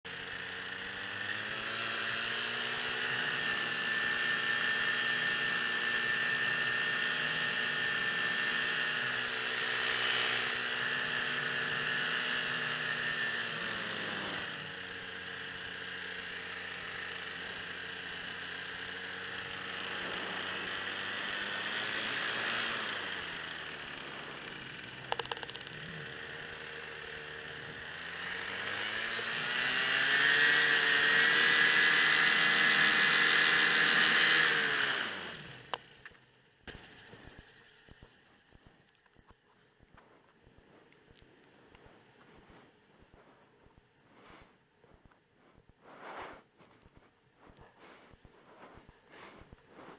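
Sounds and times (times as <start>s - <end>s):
paramotor engine running: 0.1s - 45.7s, 46.6s - 49.9s.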